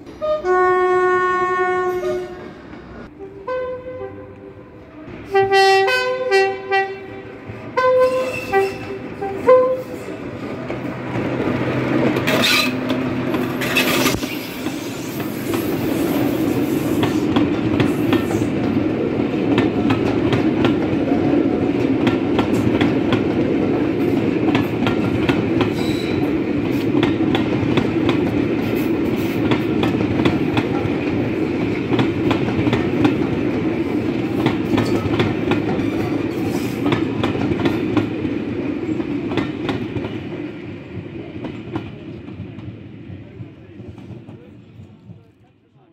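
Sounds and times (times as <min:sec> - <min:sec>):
train rumble: 0:00.0 - 0:45.9
train wheels clicking over rail joints: 0:08.1 - 0:45.2.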